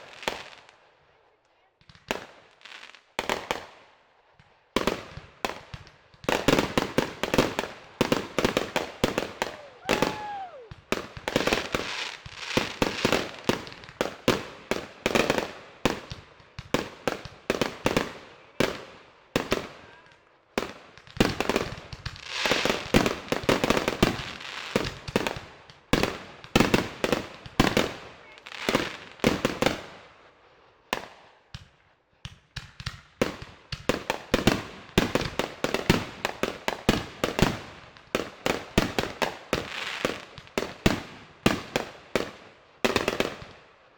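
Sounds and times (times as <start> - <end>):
fireworks bangs and crackles: 0.0 - 1.0, 1.8 - 43.9.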